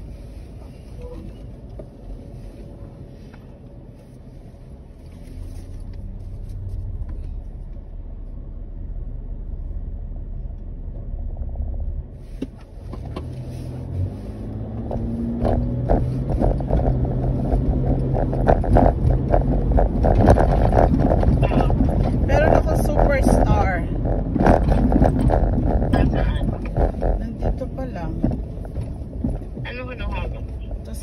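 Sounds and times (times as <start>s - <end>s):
car engine rumbling: 0.0s - 31.0s
road noise: 0.0s - 31.0s.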